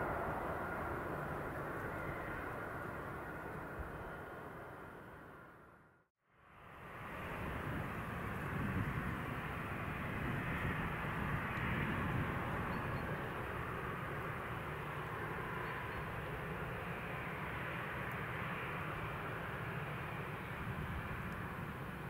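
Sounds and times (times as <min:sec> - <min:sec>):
jet engines running: 0:00.0 - 0:05.8, 0:06.6 - 0:22.0.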